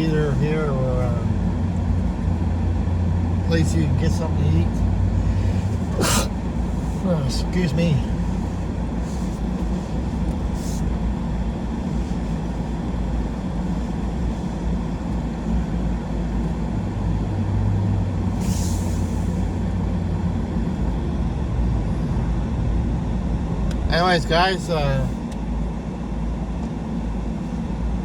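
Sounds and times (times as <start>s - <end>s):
truck engine and road rumble: 0.0s - 28.0s.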